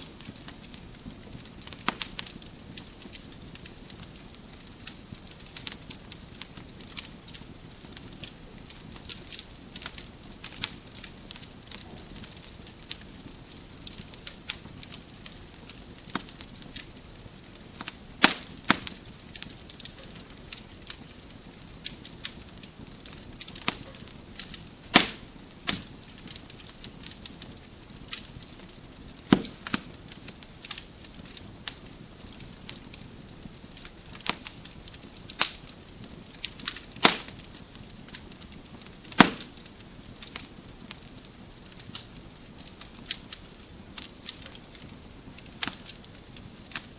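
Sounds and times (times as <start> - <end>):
low hiss: 0.0 - 46.9
wood fire crackling: 0.0 - 46.9.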